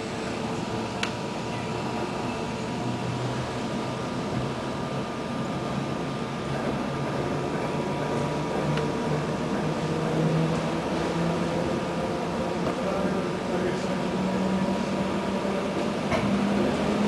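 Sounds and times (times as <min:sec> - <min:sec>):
train running rumble and hum: 0:00.0 - 0:17.0.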